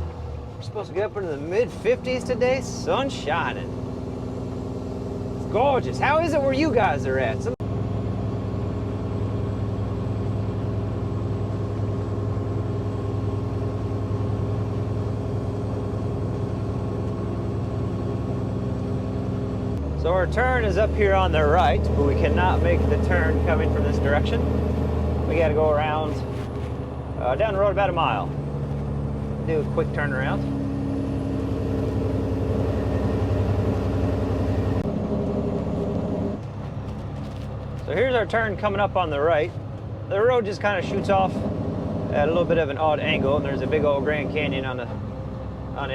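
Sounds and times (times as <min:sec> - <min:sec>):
truck diesel engine running: 0:00.0 - 0:45.9.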